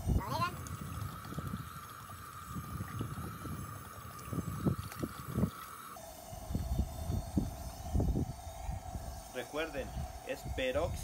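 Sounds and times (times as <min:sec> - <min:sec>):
steady thin tone: 0:00.0 - 0:11.0
wind buffeting microphone: 0:00.0 - 0:11.0.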